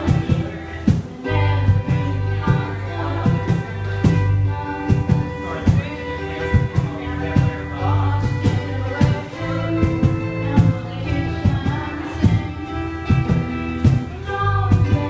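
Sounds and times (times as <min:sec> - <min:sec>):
drums keeping steady beat: 0:00.0 - 0:15.0
electric bass low notes: 0:00.0 - 0:15.0
electric guitar: 0:00.0 - 0:15.0.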